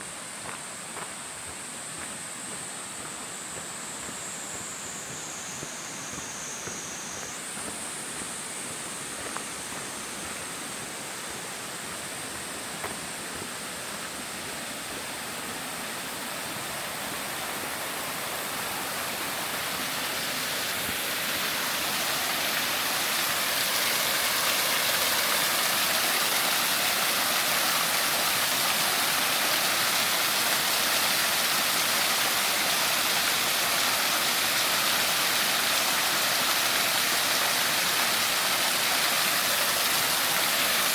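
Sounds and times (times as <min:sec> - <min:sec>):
rushing river water: 0:05.1 - 0:40.9.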